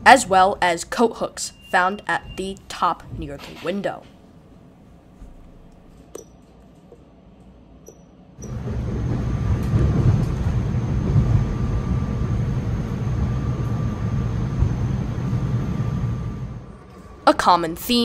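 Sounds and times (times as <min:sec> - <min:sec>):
train interior rumble: 0:00.0 - 0:06.0, 0:08.4 - 0:18.0.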